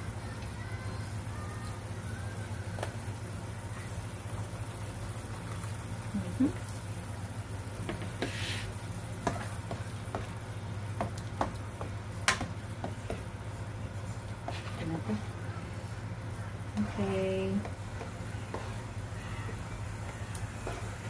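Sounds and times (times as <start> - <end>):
water boiling in a pan: 0.0 - 21.0.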